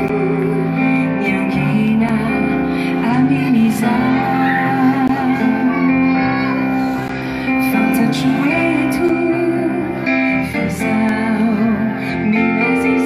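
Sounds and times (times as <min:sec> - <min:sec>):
acoustic guitar: 0:00.0 - 0:13.0
keyboard: 0:00.0 - 0:13.0
woman singing into a microphone: 0:00.0 - 0:13.0.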